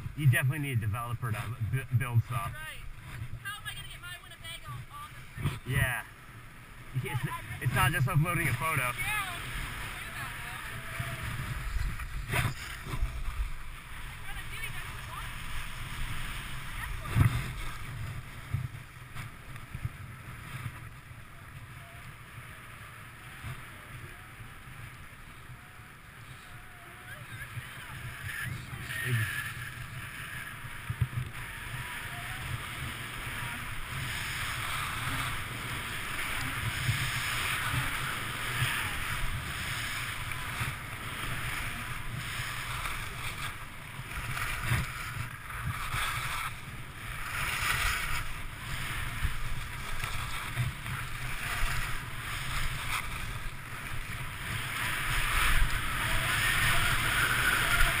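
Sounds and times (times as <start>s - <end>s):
skis scraping over snow: 0.0s - 58.0s
wind rumbling on microphone: 0.0s - 58.0s.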